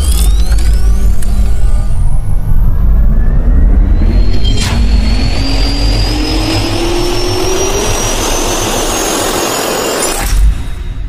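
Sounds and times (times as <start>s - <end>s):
rush of air and low rumble: 0.0s - 9.4s
jet turbine whine rising: 0.0s - 11.0s.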